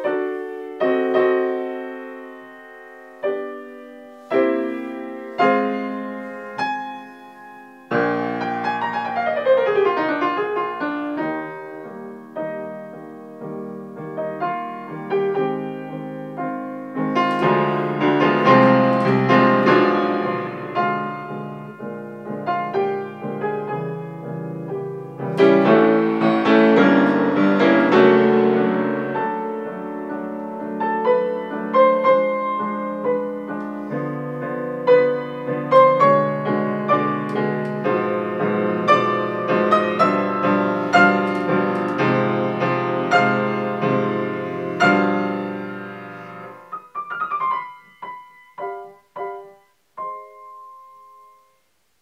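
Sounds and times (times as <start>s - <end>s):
grand piano playing: 0.0s - 51.6s.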